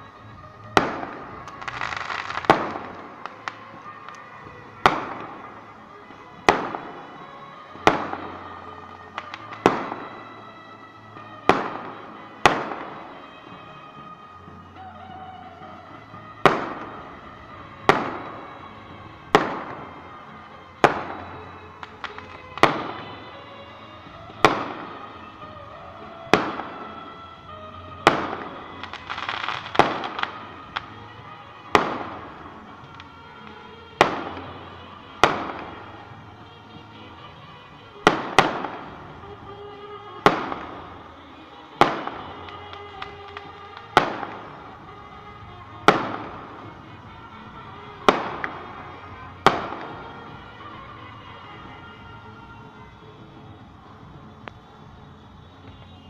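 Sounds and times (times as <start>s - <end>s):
fireworks banging: 0.0s - 56.0s.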